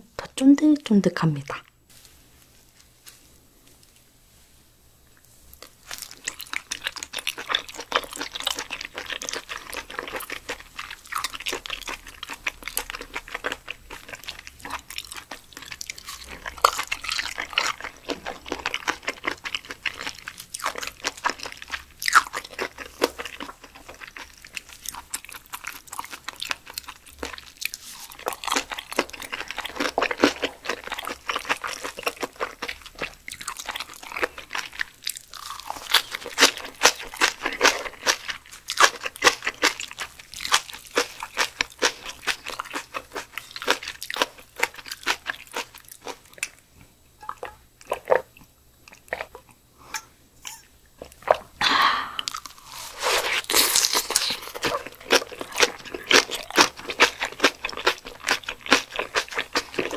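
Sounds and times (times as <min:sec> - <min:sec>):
chewing with wet mouth clicks: 0:05.6 - 0:51.4, 0:53.5 - 0:59.9.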